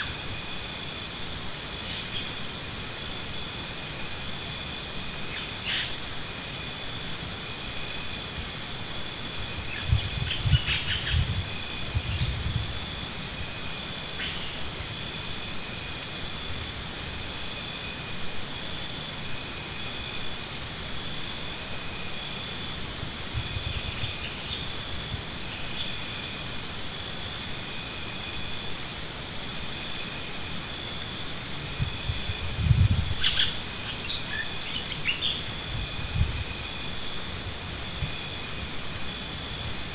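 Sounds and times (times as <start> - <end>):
insect pulsing trill: 0.0 - 39.9
insects singing: 0.0 - 39.9.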